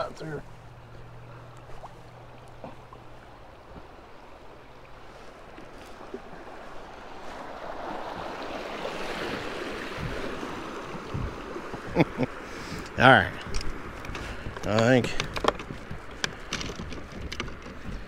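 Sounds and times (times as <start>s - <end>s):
rushing river water: 0.0s - 18.0s
paddle drips and splashes: 0.4s - 18.0s.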